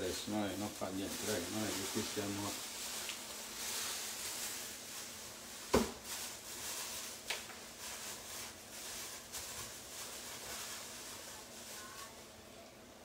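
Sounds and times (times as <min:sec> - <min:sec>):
pots simmering with a hiss: 0:00.0 - 0:13.0.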